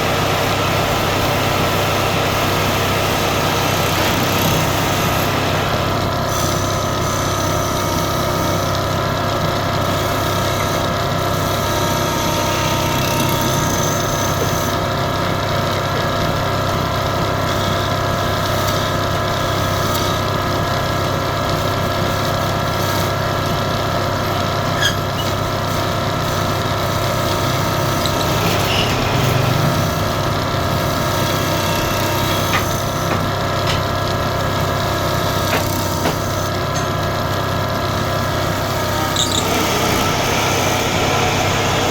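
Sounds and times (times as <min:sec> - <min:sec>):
wood lathe motor humming: 0:00.0 - 0:18.1, 0:22.9 - 0:41.9.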